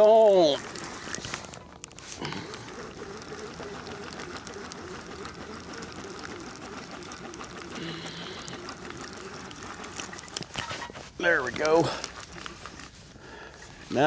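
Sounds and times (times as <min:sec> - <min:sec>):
fishing reel ratcheting clicks: 0:00.0 - 0:14.0.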